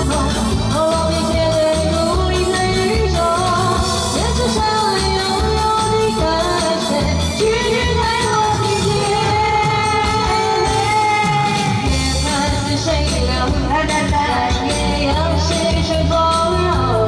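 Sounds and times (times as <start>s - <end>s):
pop song with singer: 0.0s - 17.0s.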